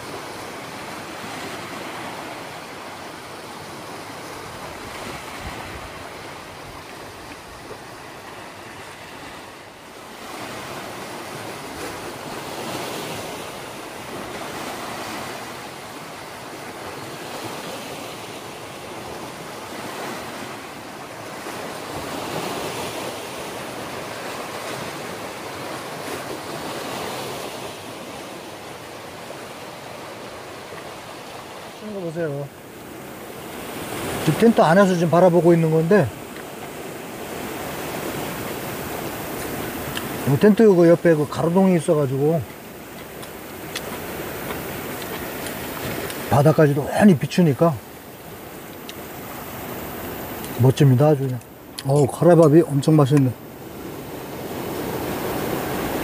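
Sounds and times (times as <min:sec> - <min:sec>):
waves breaking on rocks: 0:00.0 - 0:56.0.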